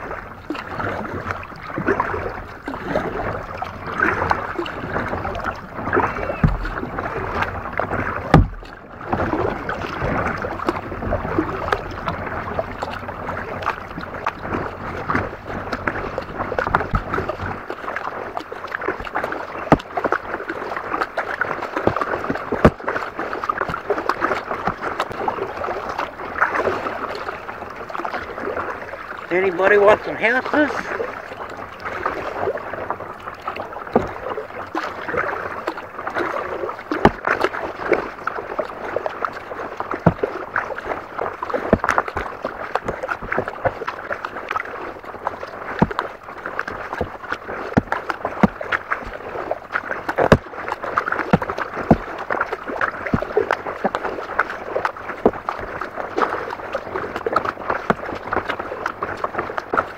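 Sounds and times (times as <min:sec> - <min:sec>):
paddle splashing water: 0:00.0 - 0:59.9
water washing along hull: 0:00.0 - 0:59.9.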